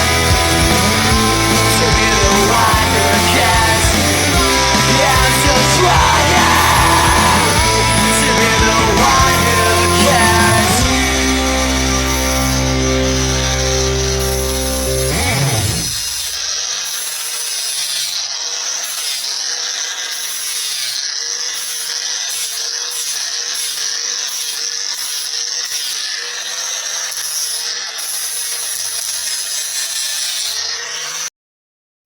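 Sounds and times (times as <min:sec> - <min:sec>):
angle grinder grinding steel: 0:00.0 - 0:31.3.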